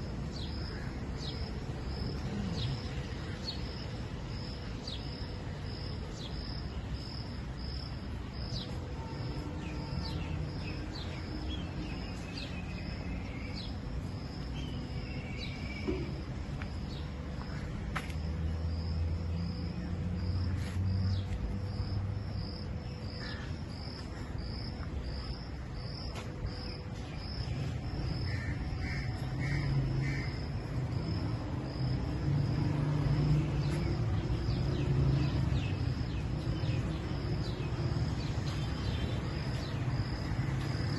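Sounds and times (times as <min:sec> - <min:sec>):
insect chirping: 0:00.3 - 0:40.9.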